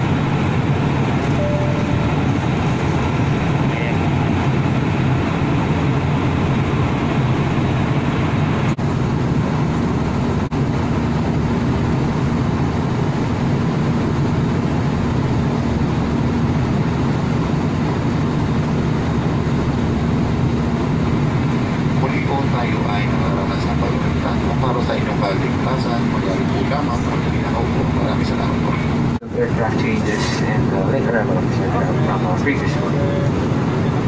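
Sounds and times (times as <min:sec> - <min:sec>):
airliner cabin engine rush: 0:00.0 - 0:34.0.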